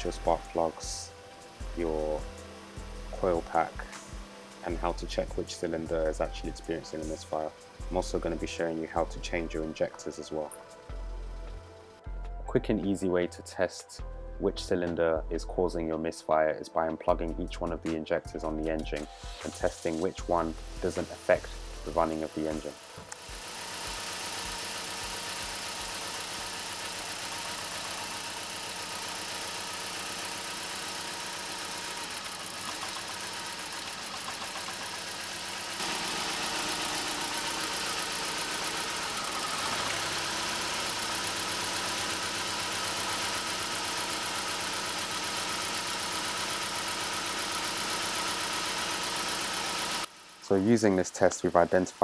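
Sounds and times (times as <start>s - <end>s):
car engine idling with misfire: 0.0s - 12.0s, 19.0s - 52.0s.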